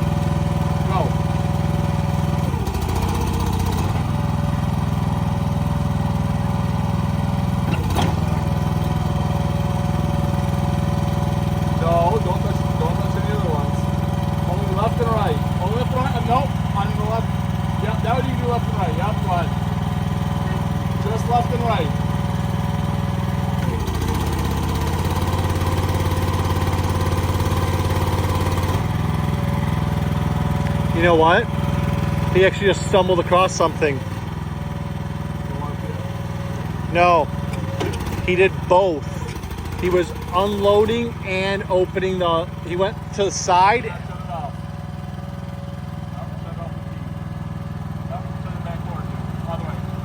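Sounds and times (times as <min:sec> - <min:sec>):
excavator engine running: 0:00.0 - 0:50.0.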